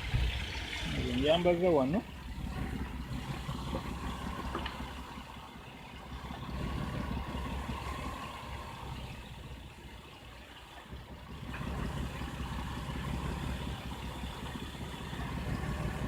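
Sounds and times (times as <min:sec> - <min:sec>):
car engine idling with misfire: 0:00.0 - 0:16.0.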